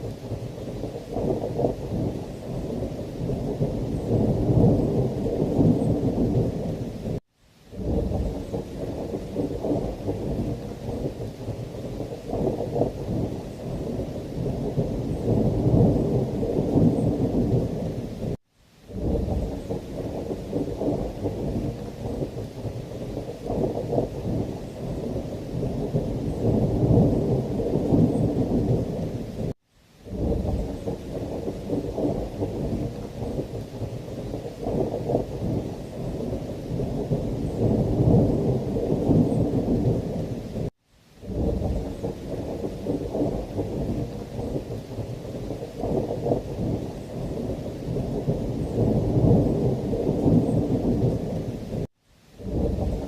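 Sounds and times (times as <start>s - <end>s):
heavy rain: 0.0s - 53.0s
rolling thunder: 0.0s - 53.0s.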